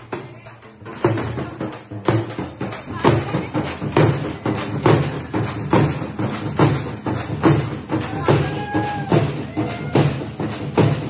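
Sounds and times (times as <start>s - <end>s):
crowd voices: 0.0s - 11.0s
frame drums beating: 0.0s - 11.0s.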